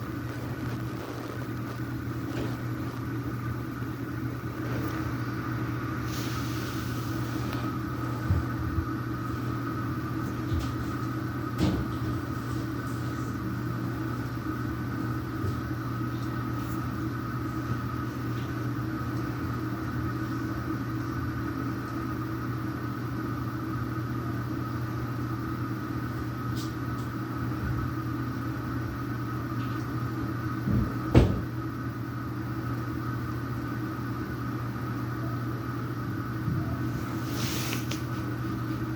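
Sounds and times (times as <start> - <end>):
steady machine hum: 0.0 - 38.9.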